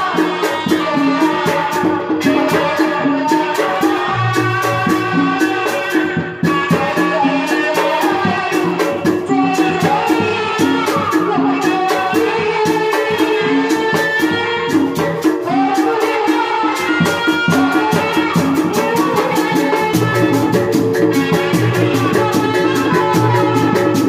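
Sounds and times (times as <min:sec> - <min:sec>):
fast percussion beat: 0:00.0 - 0:24.0
live band music: 0:00.0 - 0:24.0.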